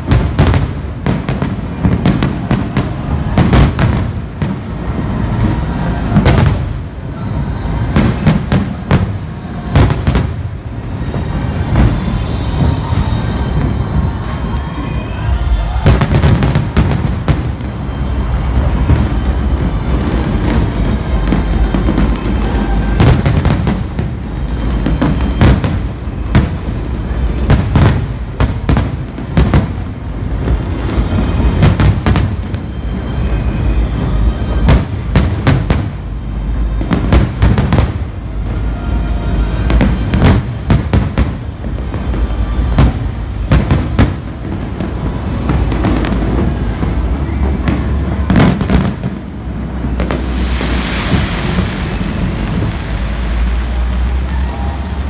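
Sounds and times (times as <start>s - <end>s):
continuous low rumble: 0.0s - 55.0s
firework bangs: 0.0s - 55.0s.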